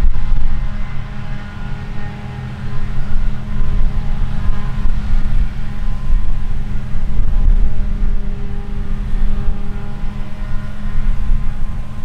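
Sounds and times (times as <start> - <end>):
harvesting machinery drone: 0.0 - 12.0.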